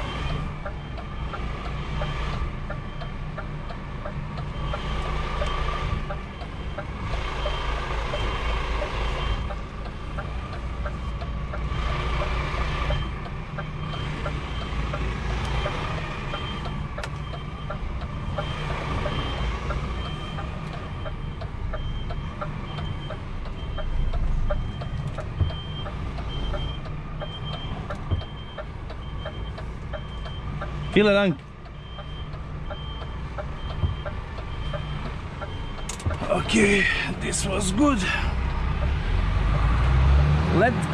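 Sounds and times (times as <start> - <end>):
reversing alarm beeps: 0.0 - 39.0
truck engine running: 0.0 - 40.9.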